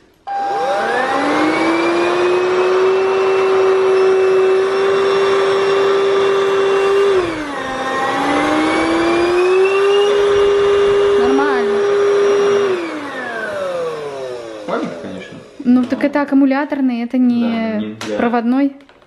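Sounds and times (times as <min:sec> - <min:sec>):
vacuum motor whine: 0:00.0 - 0:16.3.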